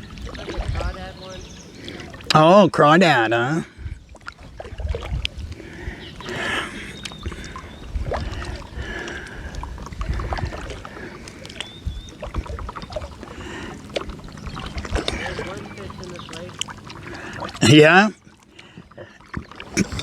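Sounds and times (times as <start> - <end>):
water splashing and lapping: 0.0 - 20.0.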